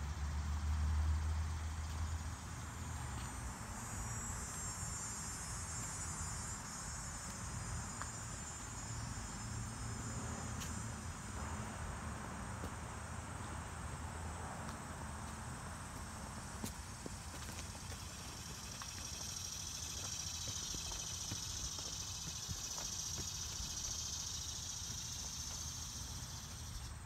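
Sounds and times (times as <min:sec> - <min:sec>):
insects chirring: 0:00.3 - 0:11.8, 0:15.1 - 0:27.0.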